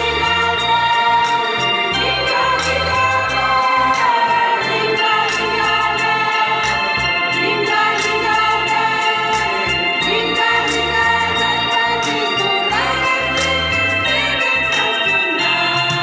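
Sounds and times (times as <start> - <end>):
choir singing a hymn: 0.0 - 16.0
electronic organ with light beat: 0.0 - 16.0.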